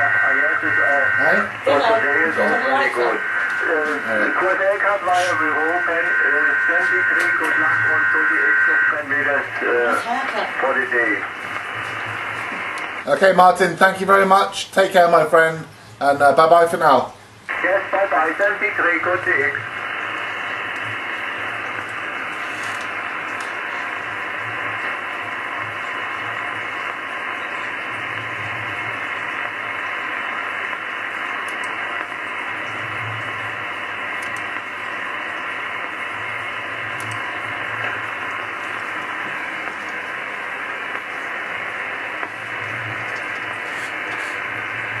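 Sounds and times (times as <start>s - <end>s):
radio receiver hiss: 0.0s - 45.0s.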